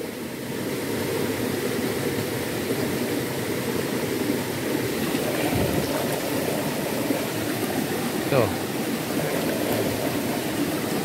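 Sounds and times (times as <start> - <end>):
fast-flowing stream rushing: 0.5 - 11.0.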